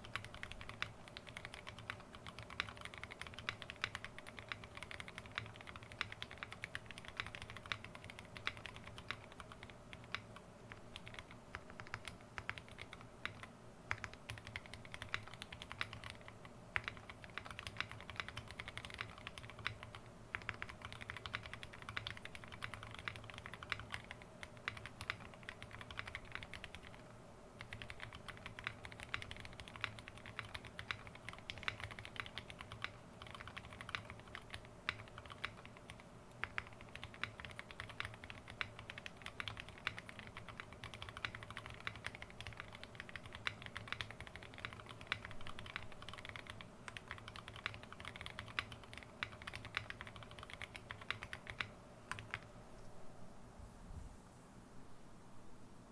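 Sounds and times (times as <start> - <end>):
mechanical keyboard typing: 0.0 - 52.5.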